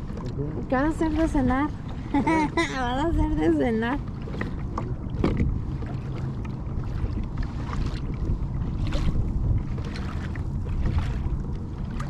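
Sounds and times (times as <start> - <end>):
water lapping against plastic hull: 0.0 - 12.0
wind rumbling on microphone: 0.0 - 12.0.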